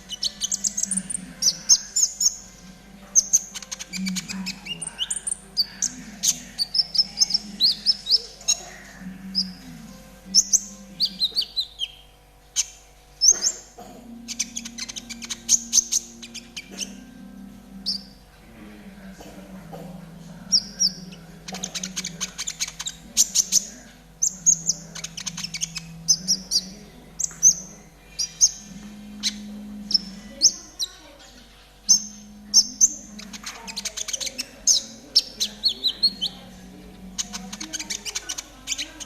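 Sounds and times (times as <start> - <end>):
songbird chirping and trilling: 0.0 - 39.0.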